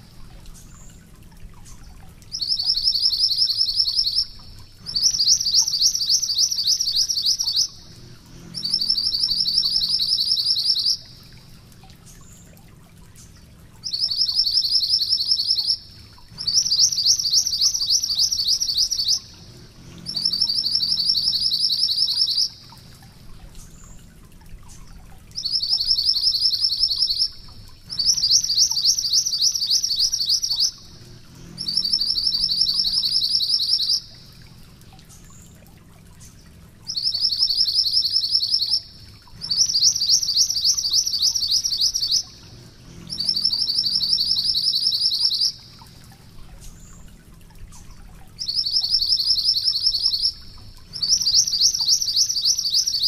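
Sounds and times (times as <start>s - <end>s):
bird singing rolling trill: 0.0s - 53.0s.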